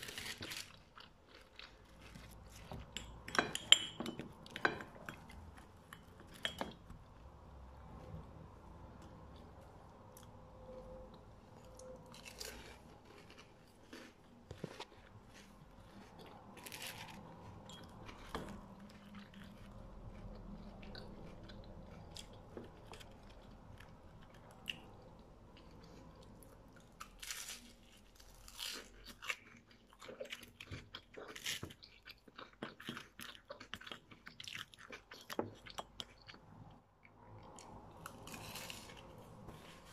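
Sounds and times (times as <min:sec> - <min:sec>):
crunching fried dough: 0:00.0 - 0:03.8, 0:11.1 - 0:39.9.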